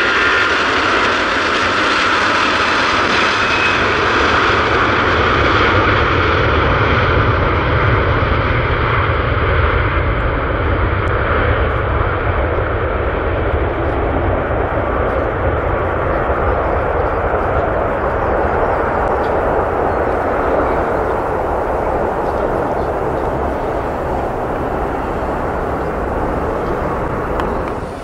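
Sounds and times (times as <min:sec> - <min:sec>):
jet engines at high power: 0:00.0 - 0:28.0.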